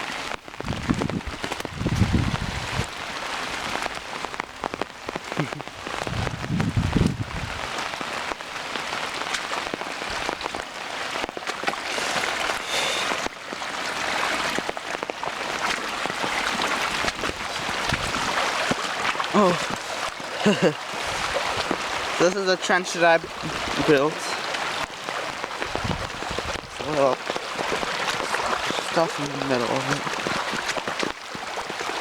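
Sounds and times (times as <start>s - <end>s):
creek rushing: 0.0s - 32.0s.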